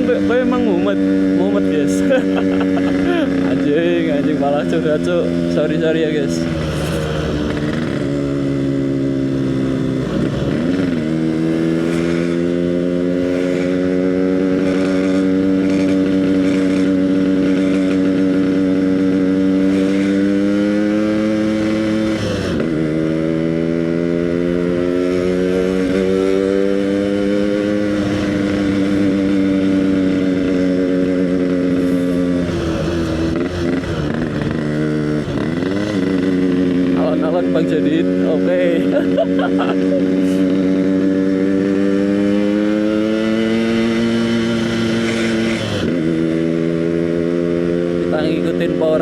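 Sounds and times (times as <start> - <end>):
two-stroke motorcycle cruising: 0.0 - 49.0.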